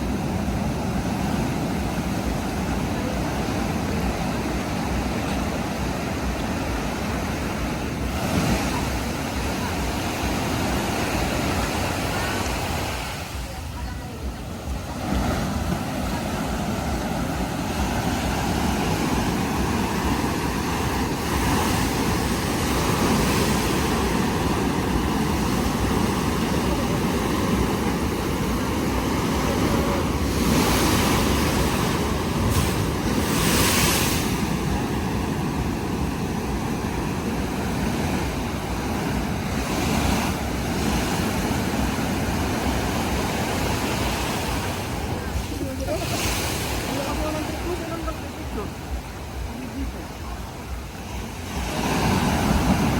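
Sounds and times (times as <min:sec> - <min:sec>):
ocean surf breaking on beach: 0:00.0 - 0:52.9
wind buffeting microphone: 0:00.0 - 0:52.9.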